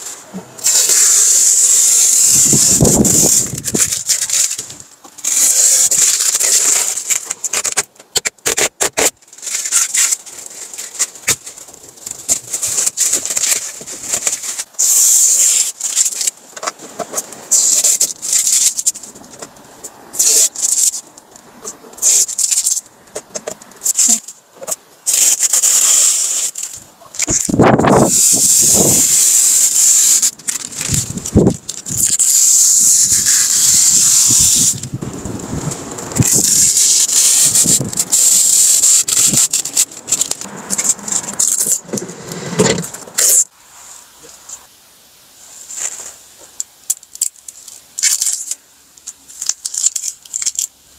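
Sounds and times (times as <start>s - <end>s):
plastic film rustling and crinkling: 0.0s - 44.7s, 45.4s - 50.9s.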